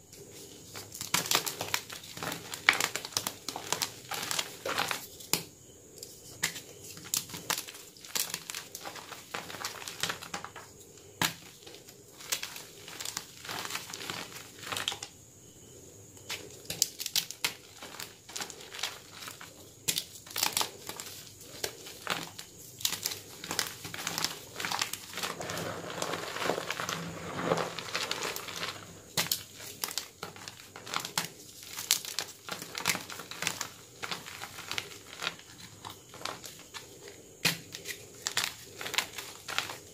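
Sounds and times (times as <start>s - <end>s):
chalk blocks crunching in hands: 0.3s - 5.5s, 6.1s - 15.1s, 16.3s - 39.9s.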